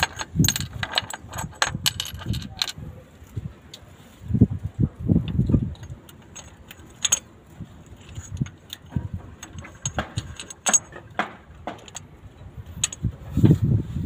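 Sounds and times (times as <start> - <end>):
metal parts and tools clinking: 0.0 - 3.9, 5.2 - 13.5.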